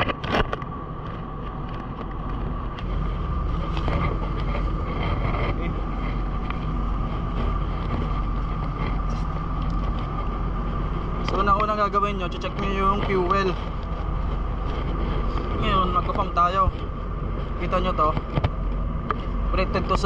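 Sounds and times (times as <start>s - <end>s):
low ship drone: 0.0s - 20.0s
thin whine: 0.0s - 20.0s
wind on microphone: 0.0s - 20.0s.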